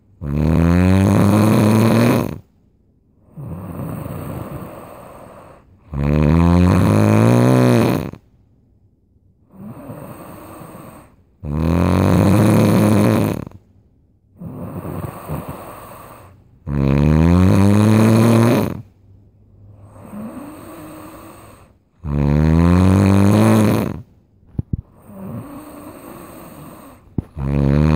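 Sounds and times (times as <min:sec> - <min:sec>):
quiet breaths: 0:00.0 - 0:08.6, 0:09.3 - 0:27.9
loud snoring: 0:00.2 - 0:02.5, 0:03.2 - 0:08.2, 0:09.5 - 0:13.6, 0:14.4 - 0:18.9, 0:19.8 - 0:24.1, 0:24.9 - 0:27.9.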